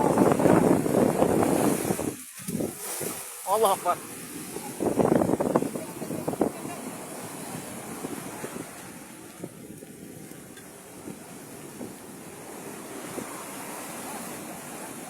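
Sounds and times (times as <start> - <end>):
rough sea rushing: 0.0 - 15.0
wind buffeting microphone: 0.0 - 15.0.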